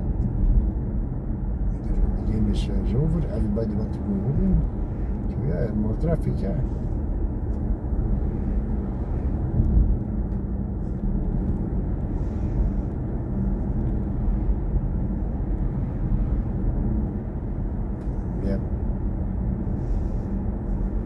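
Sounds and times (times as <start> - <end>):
road and tyre rumble: 0.0 - 21.0.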